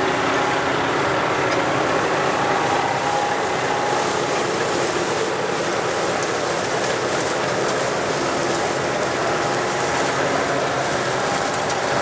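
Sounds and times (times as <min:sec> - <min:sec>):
tractor engines and machinery: 0:00.0 - 0:12.0.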